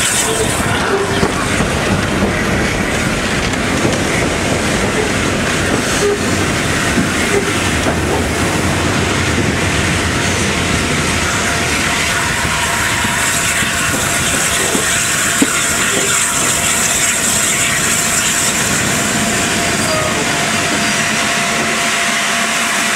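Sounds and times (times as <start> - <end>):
steam locomotive running: 0.0 - 22.9.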